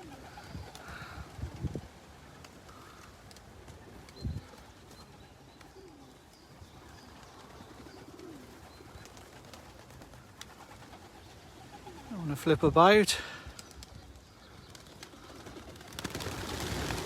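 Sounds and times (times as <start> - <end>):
pigeons cooing faintly: 0.0 - 17.0.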